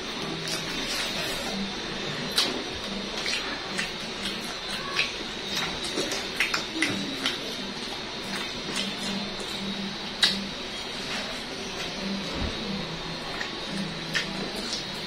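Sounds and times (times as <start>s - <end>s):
chewing: 0.1s - 15.0s.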